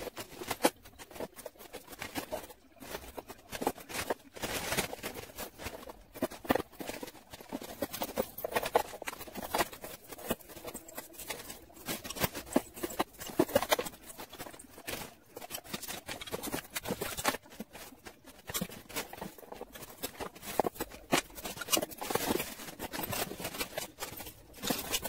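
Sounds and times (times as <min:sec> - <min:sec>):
jewellery clinking: 0:00.0 - 0:25.0
plastic bags rustling: 0:00.0 - 0:25.0.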